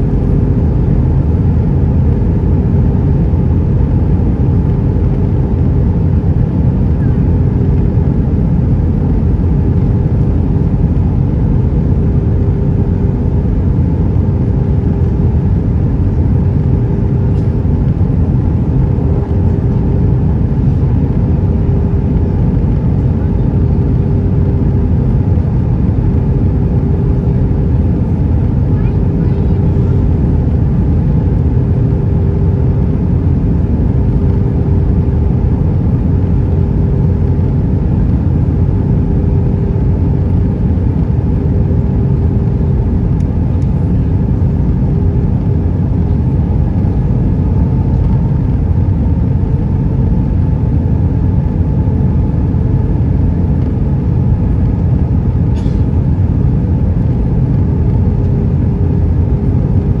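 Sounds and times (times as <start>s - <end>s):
jet engines roaring in cabin: 0.0s - 60.0s
steady droning tone: 0.0s - 60.0s.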